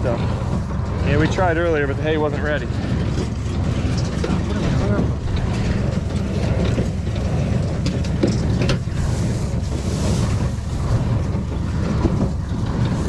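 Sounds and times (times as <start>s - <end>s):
tractor engine rumbling: 0.0s - 13.0s
wind buffeting microphone: 0.0s - 13.0s.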